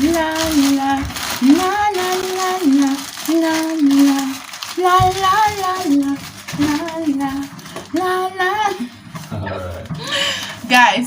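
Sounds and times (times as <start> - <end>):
woman singing wordless syllables: 0.0 - 9.0.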